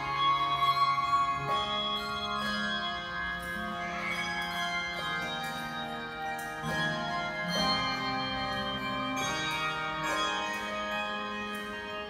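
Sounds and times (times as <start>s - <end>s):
handbell choir playing: 0.0s - 12.0s.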